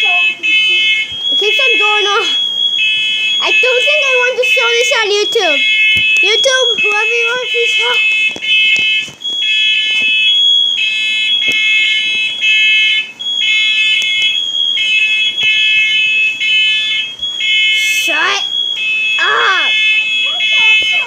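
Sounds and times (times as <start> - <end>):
smoke alarm beeping: 0.0 - 21.0.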